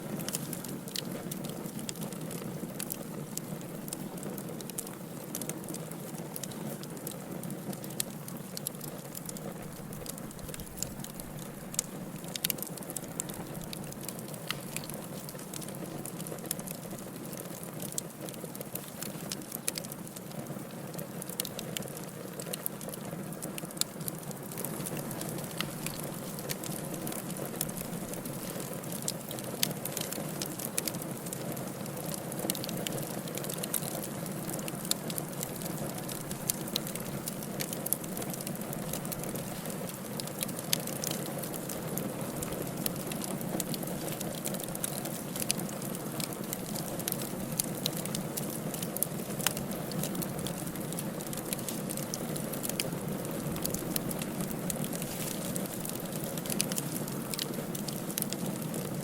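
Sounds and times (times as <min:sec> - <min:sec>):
firewood crackling in fireplace: 0:00.0 - 0:59.0.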